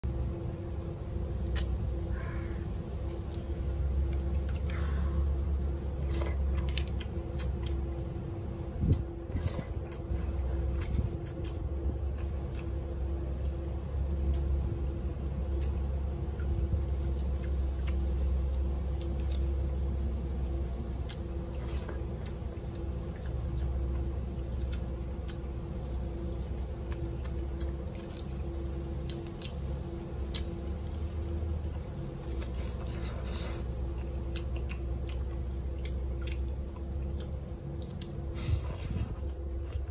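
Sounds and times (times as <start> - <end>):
low hum: 0.0 - 39.9
person chewing: 0.1 - 39.9.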